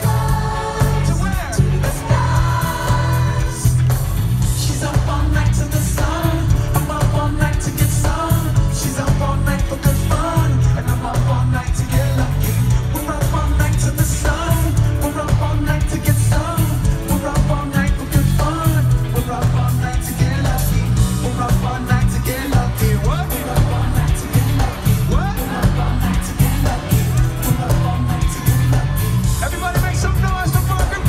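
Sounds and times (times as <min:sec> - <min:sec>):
heavy bass: 0:00.0 - 0:31.0
live band with man singing: 0:00.0 - 0:31.0
steady drum beat: 0:00.0 - 0:31.0.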